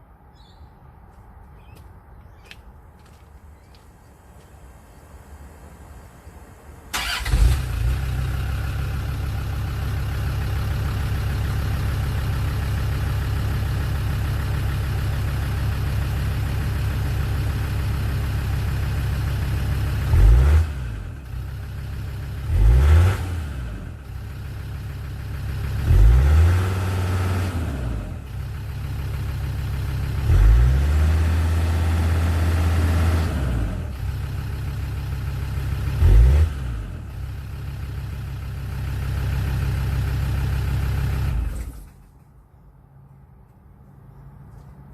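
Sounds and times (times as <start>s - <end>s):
diesel engine idling and revving: 3.0s - 42.2s.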